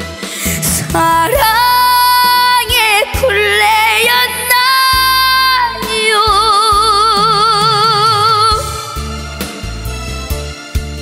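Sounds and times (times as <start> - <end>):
band accompaniment: 0.0 - 11.0
girl singing a ballad: 0.2 - 9.4.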